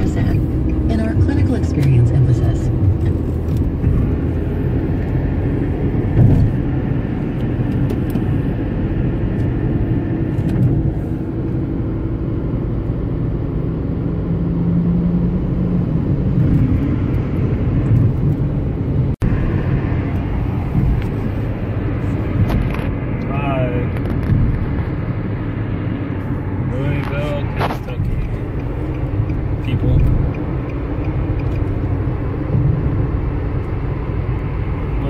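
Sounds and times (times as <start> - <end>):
car road and engine noise: 0.0 - 35.0.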